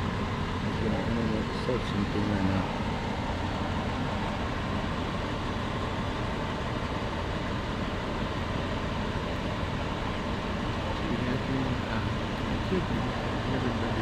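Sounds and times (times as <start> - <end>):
low vehicle engine hum: 0.0 - 14.0.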